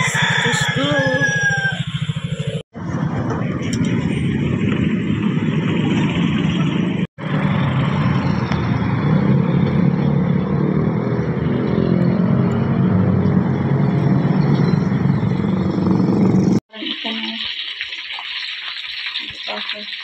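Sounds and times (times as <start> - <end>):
motorbike engine hum: 0.0 - 16.6
road noise while riding: 0.0 - 16.6.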